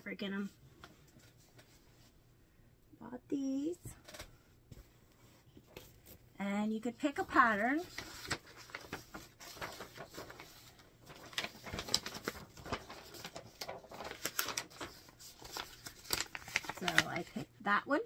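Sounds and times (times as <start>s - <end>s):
fabric and paper rustling: 0.2s - 2.2s, 3.9s - 17.5s.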